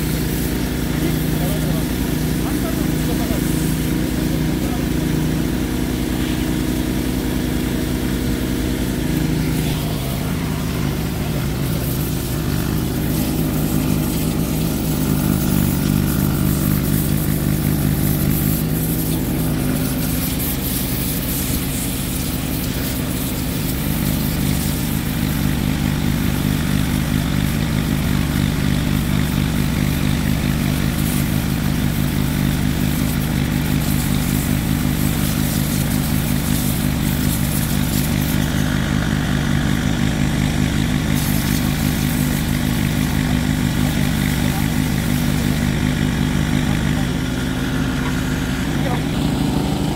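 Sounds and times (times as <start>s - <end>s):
water jet hissing on metal: 0.0s - 46.7s
pressure washer engine running: 0.0s - 49.9s.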